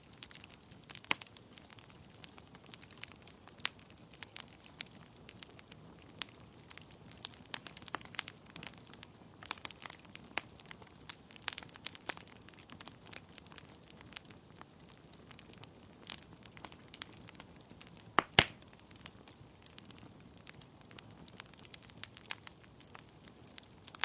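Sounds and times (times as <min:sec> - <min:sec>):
logs crackling and popping: 0:00.0 - 0:24.0
soft hiss of flames: 0:00.0 - 0:24.0.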